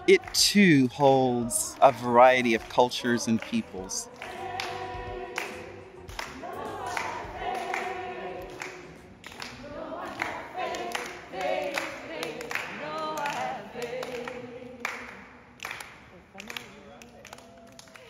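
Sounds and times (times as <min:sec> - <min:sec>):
group singing a cappella: 0:00.0 - 0:15.4
hand claps: 0:01.8 - 0:18.0.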